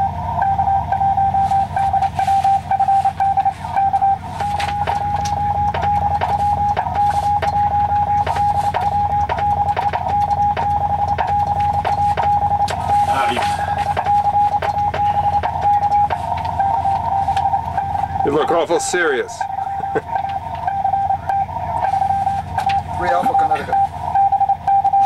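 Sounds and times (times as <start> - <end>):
morse code beeps: 0.0 - 25.0.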